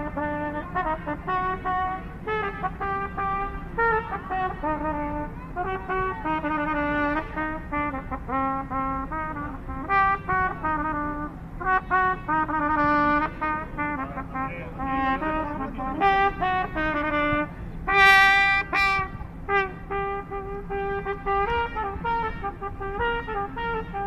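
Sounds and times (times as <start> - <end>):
solo trumpet playing: 0.0 - 24.0.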